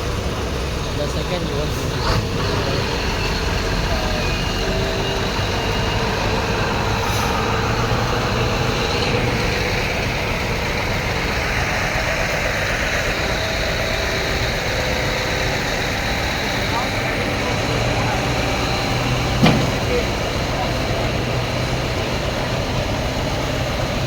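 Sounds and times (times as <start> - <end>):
heavy truck engine running: 0.0 - 24.0
road noise hiss: 0.0 - 24.0.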